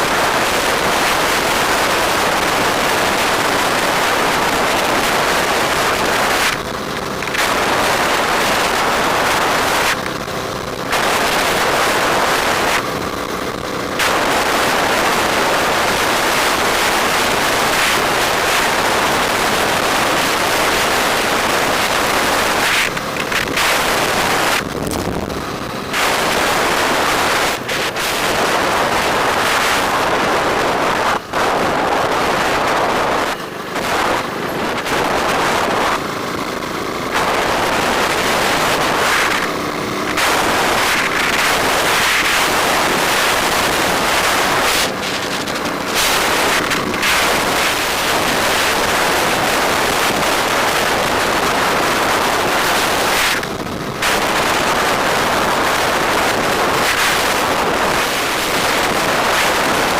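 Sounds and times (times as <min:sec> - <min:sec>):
motorbike engine: 0:00.0 - 0:59.9
traffic: 0:00.0 - 0:59.9
wind buffeting microphone: 0:00.0 - 0:59.9.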